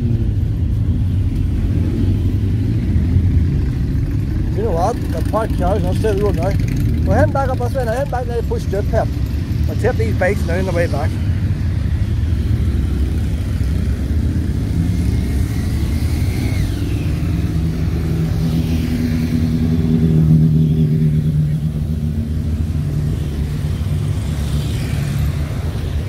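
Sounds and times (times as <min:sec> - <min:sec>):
engine passing by: 0:00.0 - 0:26.0
traffic passing: 0:00.0 - 0:26.0.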